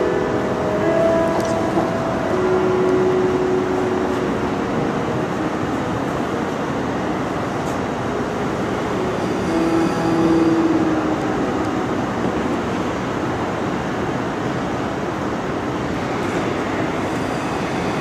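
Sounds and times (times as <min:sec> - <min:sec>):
rushing noise of ice rink arena: 0:00.0 - 0:18.0.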